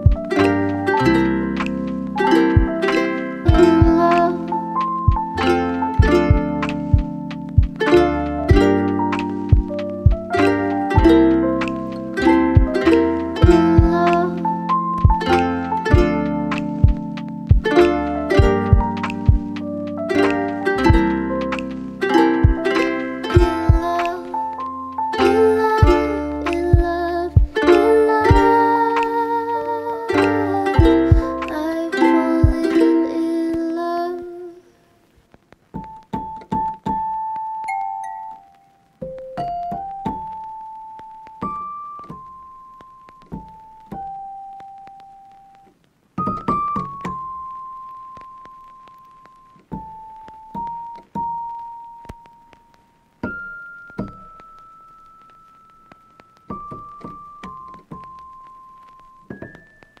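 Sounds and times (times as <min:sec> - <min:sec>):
piano music: 0:00.0 - 0:34.5, 0:35.8 - 1:00.0.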